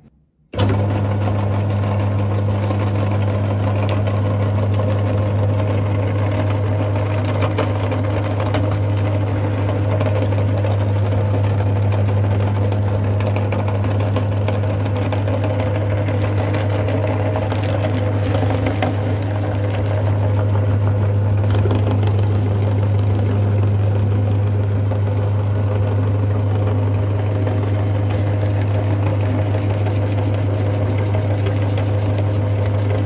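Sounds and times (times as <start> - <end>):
electric meat grinder running: 0.6 - 33.0.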